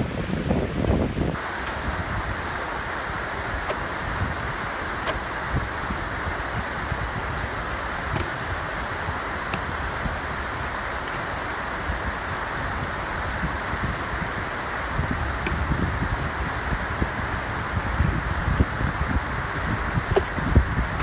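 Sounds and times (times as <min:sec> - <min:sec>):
water rushing over weir: 0:00.0 - 0:21.0
wind buffeting microphone: 0:00.0 - 0:21.0.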